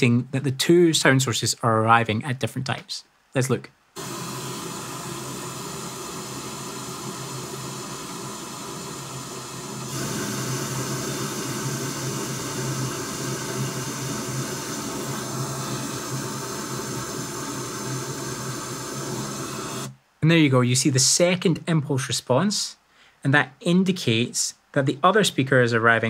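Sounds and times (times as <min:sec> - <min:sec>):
pink noise hiss from loudspeaker: 0:00.0 - 0:26.0.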